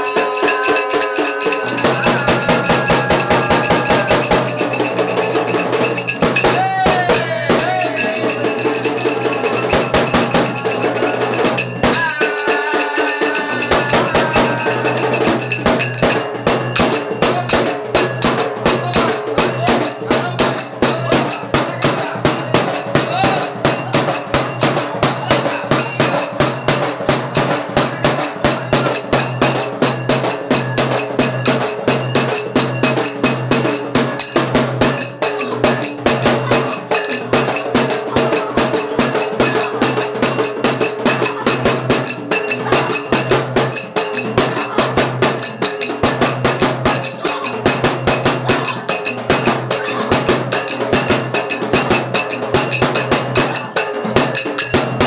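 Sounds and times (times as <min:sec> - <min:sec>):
metal plates beaten rhythmically: 0:00.0 - 0:55.0
voices: 0:00.0 - 0:55.0.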